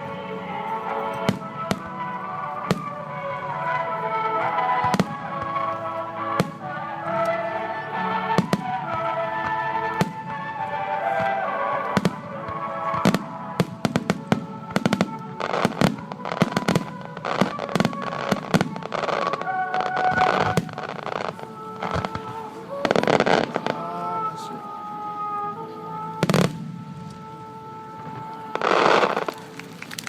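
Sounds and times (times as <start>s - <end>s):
fireworks bursting: 0.0s - 25.4s, 26.0s - 30.0s
music: 0.0s - 30.0s.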